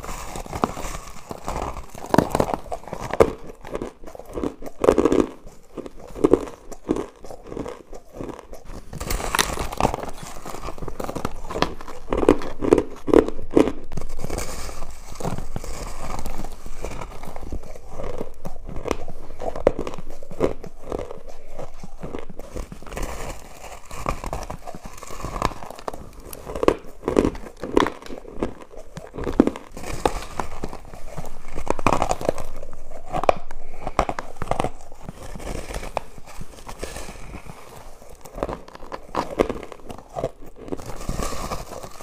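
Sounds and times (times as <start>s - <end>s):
crushed ice being chewed: 0.0s - 42.0s.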